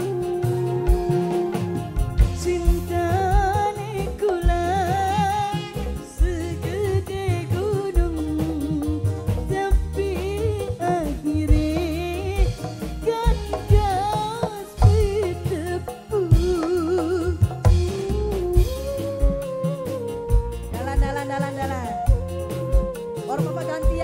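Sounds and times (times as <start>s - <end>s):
drum and bass beat: 0.0s - 24.0s
woman singing with vibrato: 0.0s - 24.0s.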